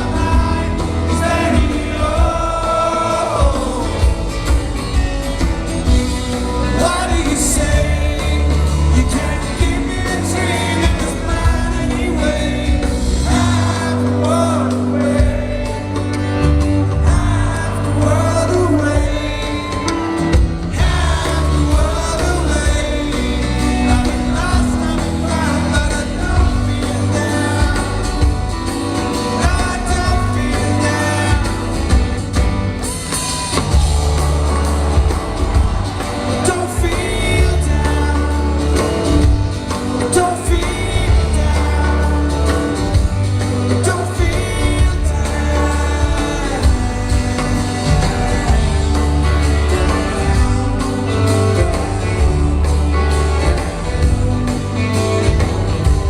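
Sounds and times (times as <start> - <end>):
person singing: 0.0 - 5.0, 5.9 - 56.0
rock band playing live: 0.0 - 56.0.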